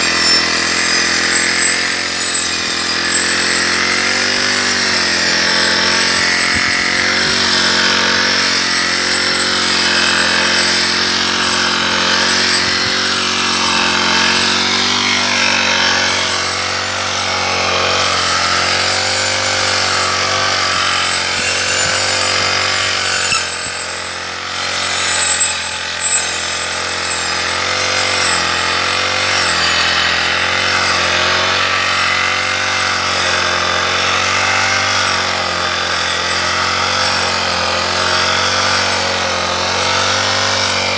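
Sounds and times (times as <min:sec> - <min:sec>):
brush cutter cutting grass: 0:00.0 - 0:40.9.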